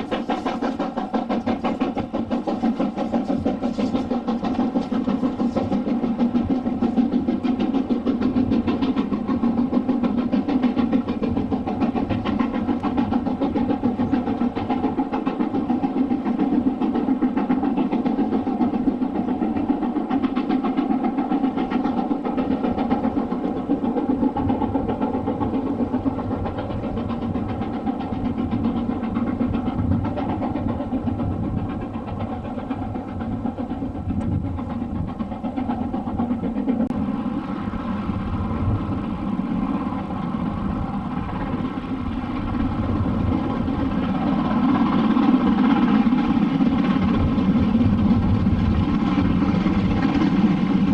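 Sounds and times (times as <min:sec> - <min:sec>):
steam locomotive exhaust beats: 0:00.0 - 0:50.9.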